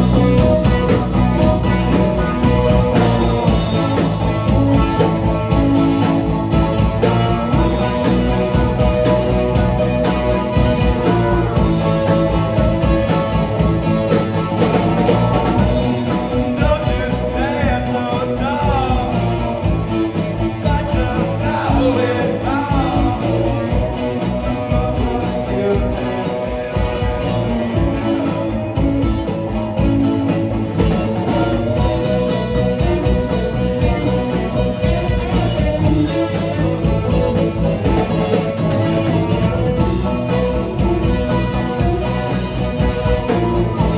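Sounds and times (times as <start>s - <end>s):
wavering lead line: 0.0s - 20.5s, 21.2s - 43.9s
rock band playing: 0.0s - 43.9s.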